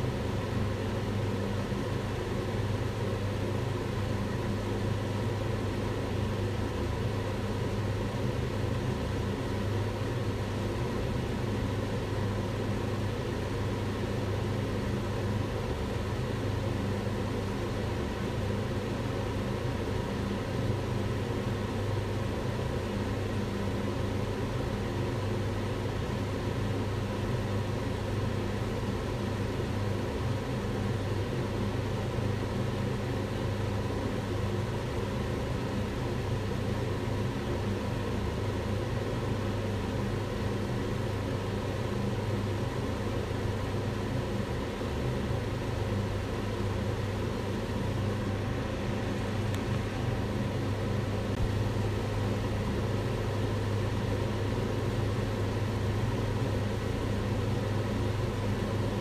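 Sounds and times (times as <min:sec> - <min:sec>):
extractor fan running: 0:00.0 - 0:59.0.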